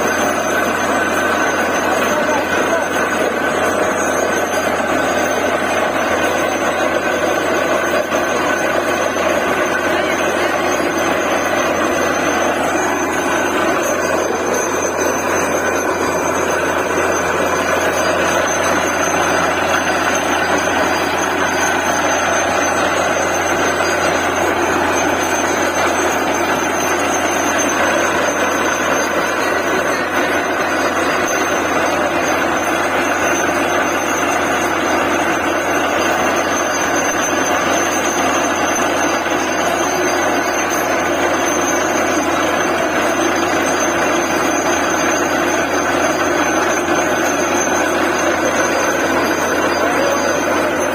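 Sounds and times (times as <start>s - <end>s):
air compressor running: 0.0s - 50.9s
drilling rig engine running: 0.0s - 50.9s.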